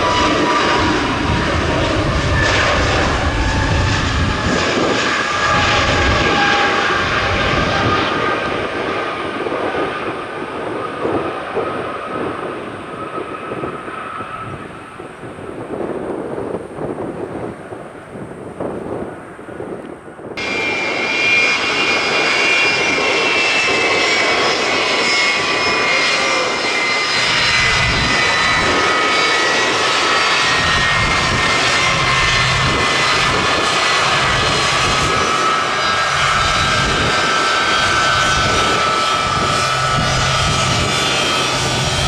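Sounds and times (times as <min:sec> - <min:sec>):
jet airliner engines passing: 0:00.0 - 0:42.0.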